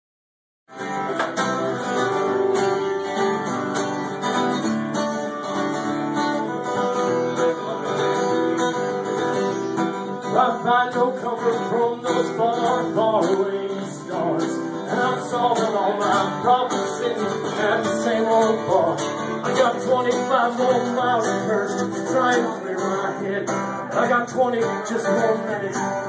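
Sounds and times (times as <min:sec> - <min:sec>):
acoustic guitar strumming: 0:00.7 - 0:26.0.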